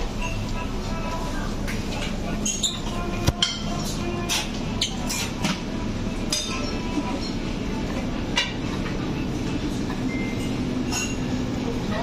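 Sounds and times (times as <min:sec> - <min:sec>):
dishes and utensils clinking: 0:00.1 - 0:12.0.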